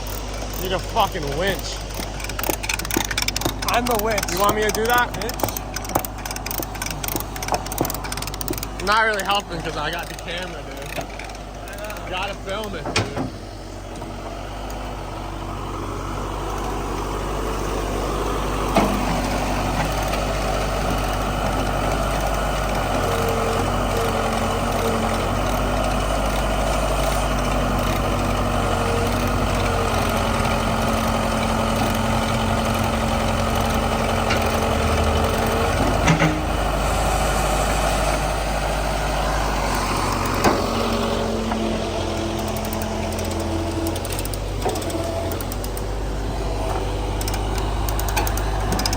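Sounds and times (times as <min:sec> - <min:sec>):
backhoe engine running under load: 0:00.0 - 0:48.9.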